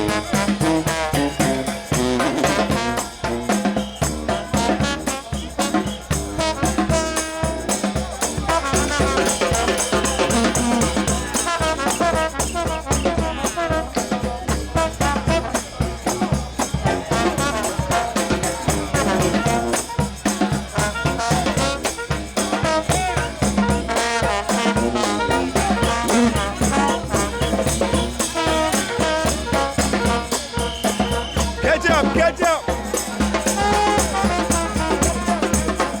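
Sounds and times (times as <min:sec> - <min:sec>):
brass band playing: 0:00.0 - 0:36.0
driving drum beat: 0:00.0 - 0:36.0
tambourine shaking: 0:00.0 - 0:36.0.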